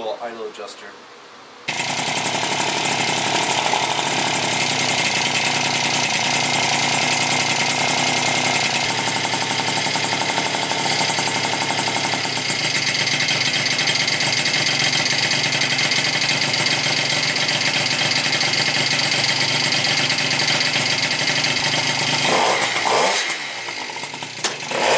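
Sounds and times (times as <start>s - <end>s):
scooter engine fast idle: 1.7s - 24.9s.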